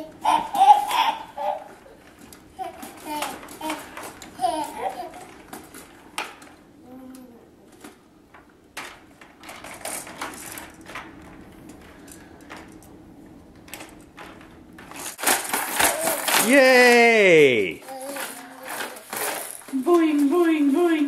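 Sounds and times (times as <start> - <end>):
plastic toys clicking and rattling: 0.0 - 13.0, 13.6 - 21.0.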